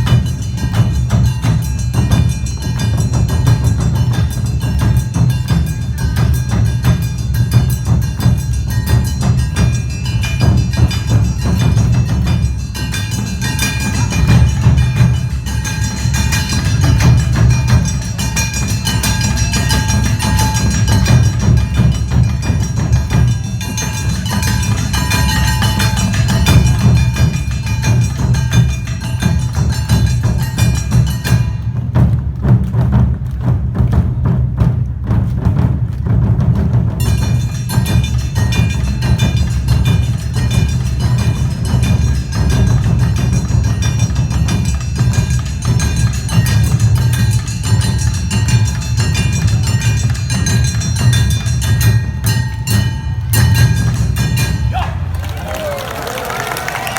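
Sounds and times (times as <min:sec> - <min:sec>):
metal hand gong beating: 0:00.0 - 0:32.0, 0:37.0 - 0:55.2
taiko drums: 0:00.0 - 0:56.9.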